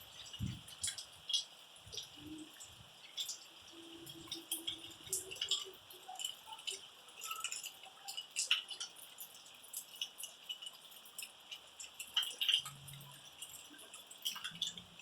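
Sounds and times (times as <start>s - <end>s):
rain drops tapping and clicking: 0.0s - 15.0s.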